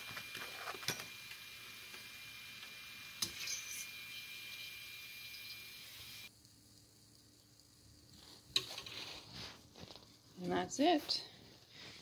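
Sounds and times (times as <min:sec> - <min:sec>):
dough frying in hot oil: 0:00.0 - 0:12.0.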